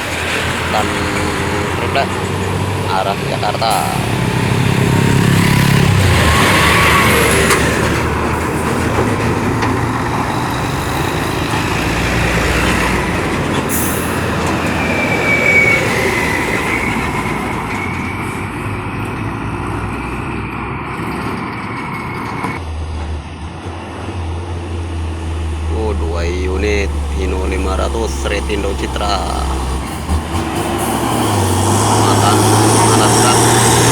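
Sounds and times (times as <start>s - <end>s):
diesel trucks labouring: 0.0s - 33.9s.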